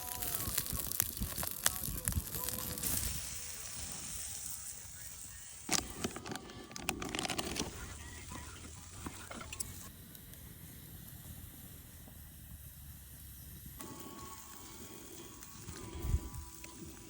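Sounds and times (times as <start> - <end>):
fire crackles: 0.0 - 17.0
food sizzling over campfire: 0.0 - 17.0.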